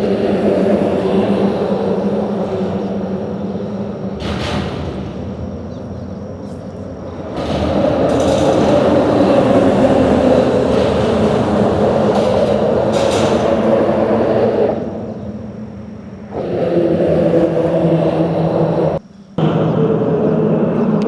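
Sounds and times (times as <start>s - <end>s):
traffic rumble on a bridge: 0.0s - 21.0s.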